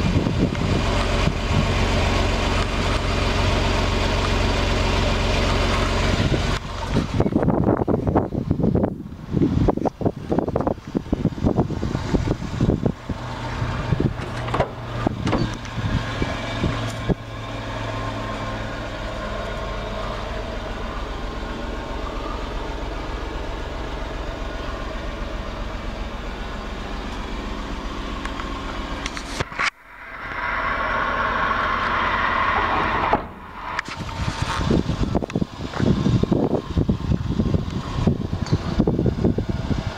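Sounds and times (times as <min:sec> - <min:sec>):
small truck engine idling: 0:00.0 - 0:39.9.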